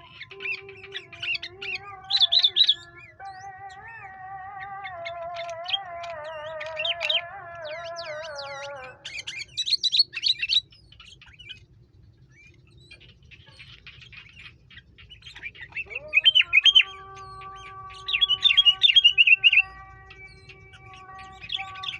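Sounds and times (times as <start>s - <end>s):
bulbuls chirping: 0.0s - 21.9s.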